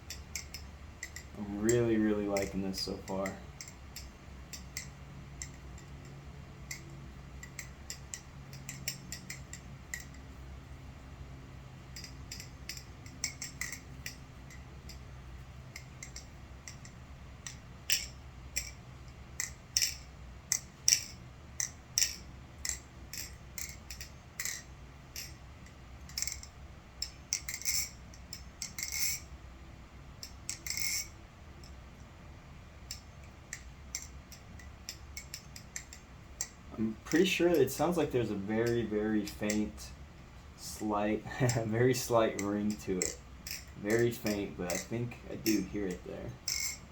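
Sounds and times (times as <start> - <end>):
butterfly knife clicking and clacking: 0.0 - 10.3, 11.9 - 15.1, 15.7 - 29.3, 30.2 - 31.8, 32.8 - 39.8, 41.3 - 46.9.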